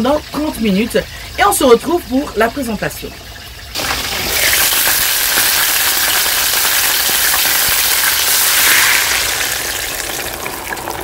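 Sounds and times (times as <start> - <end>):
tomato sizzling in hot pan: 0.0 - 11.0.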